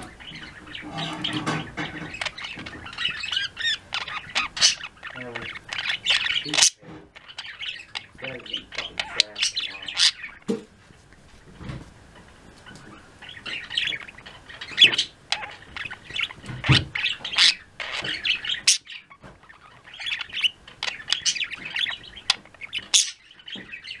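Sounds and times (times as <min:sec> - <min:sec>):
budgerigars chirping and trilling: 0:00.0 - 0:10.7, 0:11.4 - 0:24.0.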